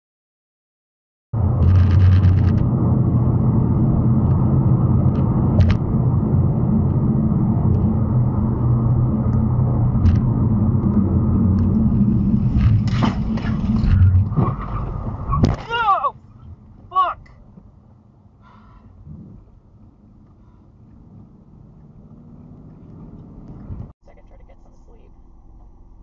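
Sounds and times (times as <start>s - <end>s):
car road and engine drone: 1.4s - 26.0s.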